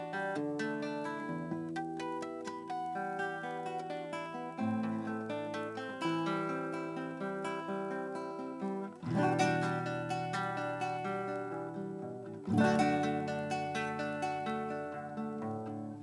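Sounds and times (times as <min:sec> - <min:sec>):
acoustic guitar piece: 0:00.0 - 0:16.0.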